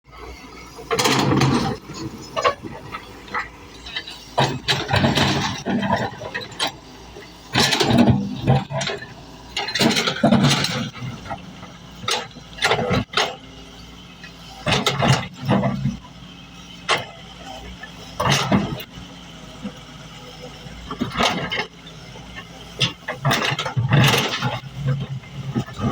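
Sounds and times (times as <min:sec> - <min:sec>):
excavator diesel engine running: 0:00.1 - 0:25.9.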